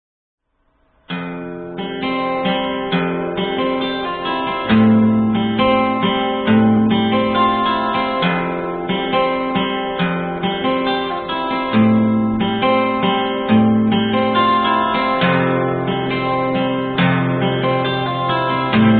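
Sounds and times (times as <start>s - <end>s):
guitar chords: 0.8s - 18.9s.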